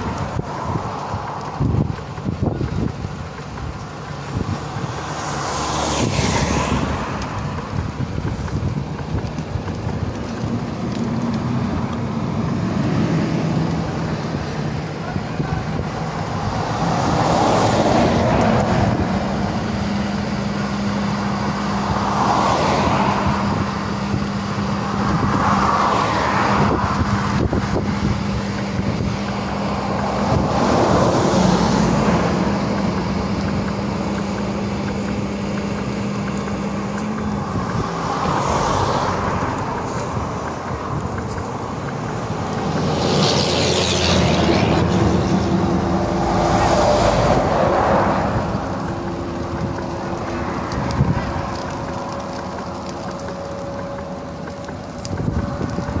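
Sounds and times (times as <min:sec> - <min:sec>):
heavy outdoor rumble: 0:00.0 - 0:56.0
vehicle engine running: 0:00.0 - 0:56.0.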